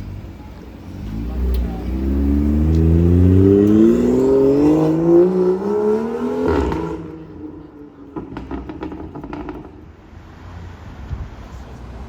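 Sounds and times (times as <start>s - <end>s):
supercar engine accelerating: 0.0s - 9.9s.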